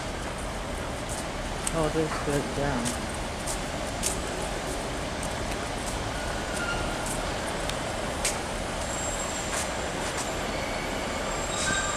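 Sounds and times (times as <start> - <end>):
diesel trains idling: 0.0 - 11.7.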